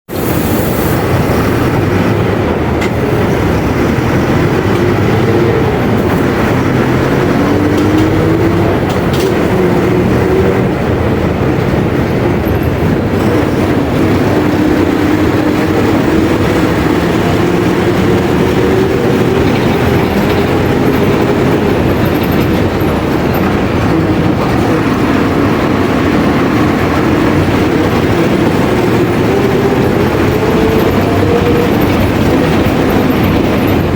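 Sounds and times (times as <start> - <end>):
diesel bus engine running: 0.1 - 33.9.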